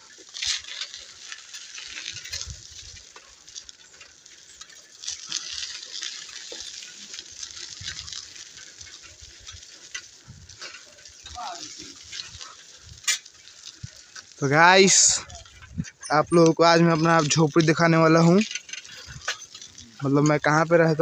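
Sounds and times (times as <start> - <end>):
bicycle tyres on gritty dirt: 0.0 - 21.0
small clicks and rattles: 0.0 - 21.0.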